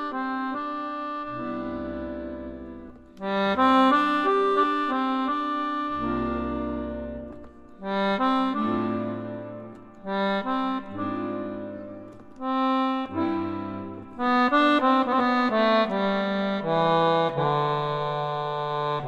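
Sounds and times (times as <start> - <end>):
accordion playing chords: 0.0 - 19.0.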